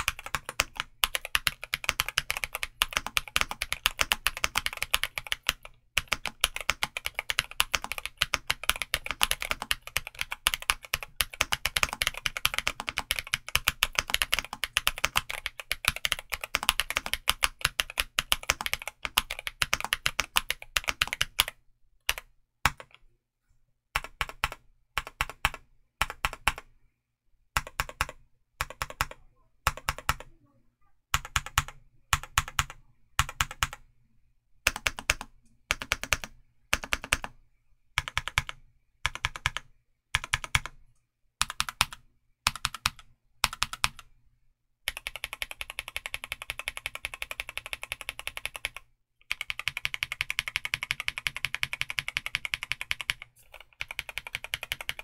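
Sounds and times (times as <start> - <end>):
mechanical keyboard typing: 0.0 - 23.0, 23.9 - 26.7, 27.6 - 30.3, 31.1 - 33.8, 34.6 - 37.4, 38.0 - 40.8, 41.4 - 44.1, 44.9 - 55.0.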